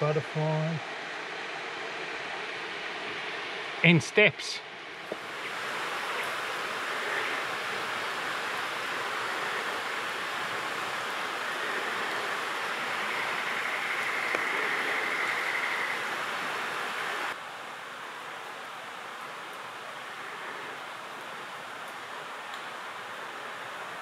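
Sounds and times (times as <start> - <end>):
running water rushing: 0.0 - 24.0.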